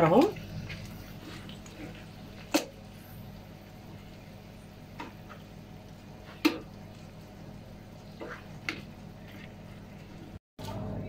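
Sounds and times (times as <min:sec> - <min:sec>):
meat sizzling: 0:00.0 - 0:10.4.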